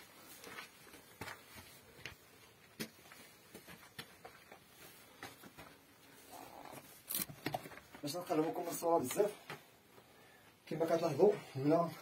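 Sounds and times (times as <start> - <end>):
footsteps on stone and earth: 0.0 - 10.1.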